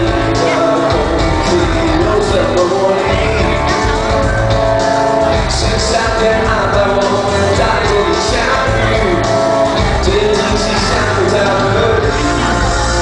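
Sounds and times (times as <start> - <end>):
drums keeping steady beat: 0.0 - 13.0
guitars: 0.0 - 13.0.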